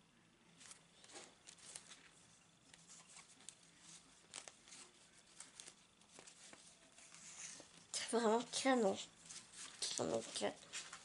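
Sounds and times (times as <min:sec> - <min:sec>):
card and paper rustling: 0:00.6 - 0:11.0.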